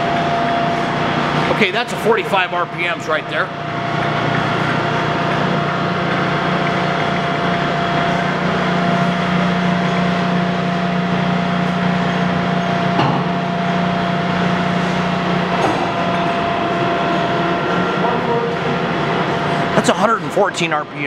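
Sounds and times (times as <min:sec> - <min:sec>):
lathe motor humming: 0:00.0 - 0:21.0.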